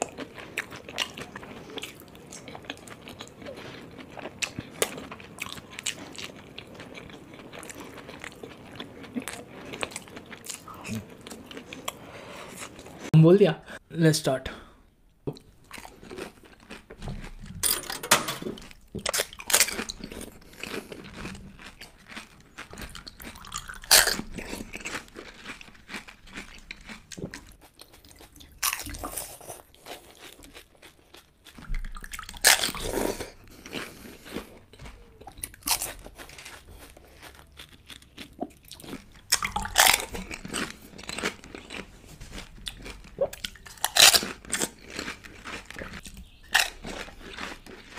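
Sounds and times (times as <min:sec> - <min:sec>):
crunching fried snacks: 0:00.0 - 0:12.0, 0:15.6 - 0:47.9
wet chewing: 0:00.0 - 0:13.1, 0:15.3 - 0:47.9.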